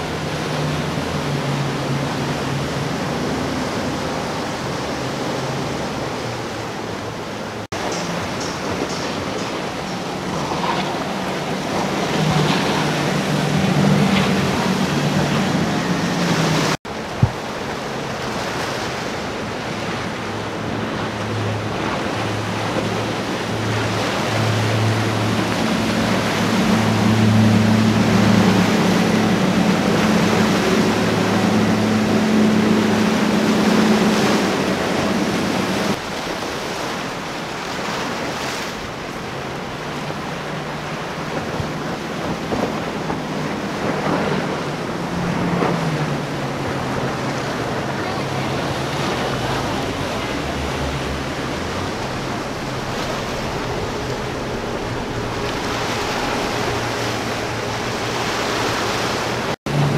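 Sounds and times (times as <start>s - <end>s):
boat engines droning: 0.0s - 59.9s
breaking water rushing: 0.0s - 59.9s.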